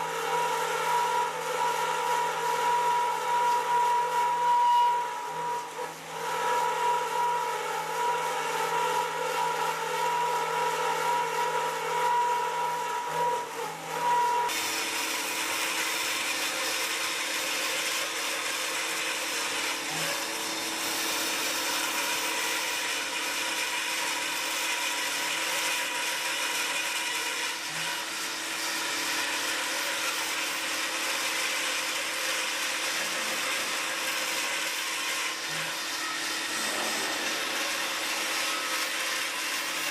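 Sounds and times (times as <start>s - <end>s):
drilling and cutting machine running: 0.0s - 39.9s.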